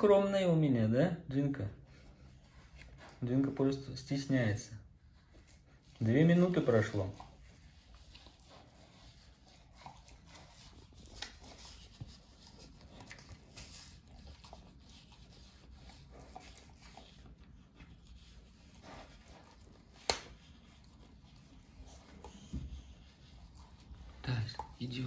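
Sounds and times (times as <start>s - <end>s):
dog licking cling film: 2.0s - 25.0s.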